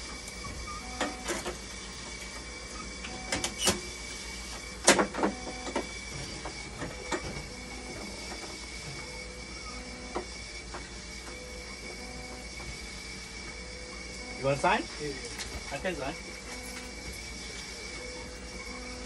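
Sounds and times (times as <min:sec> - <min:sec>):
machine humming: 0:00.0 - 0:19.0
faint steady tones: 0:00.1 - 0:19.0.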